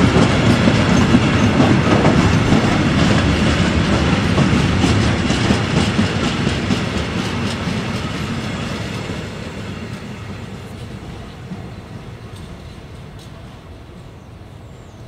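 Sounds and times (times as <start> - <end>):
train wheels clacking over rail joints: 0.0 - 13.9.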